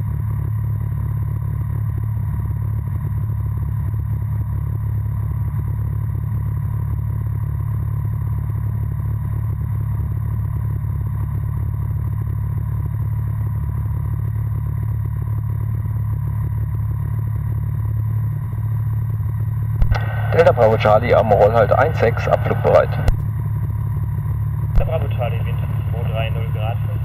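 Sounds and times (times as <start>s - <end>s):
light aircraft engine droning: 0.0s - 27.0s.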